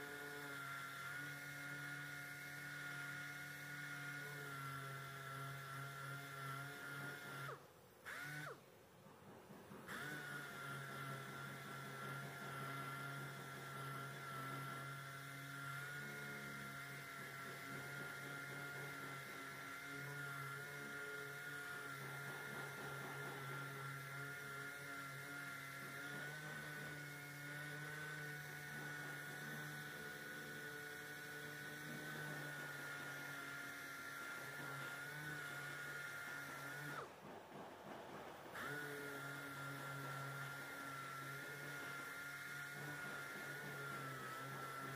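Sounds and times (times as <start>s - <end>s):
orbital sander whining: 0.0s - 8.7s, 9.7s - 44.9s.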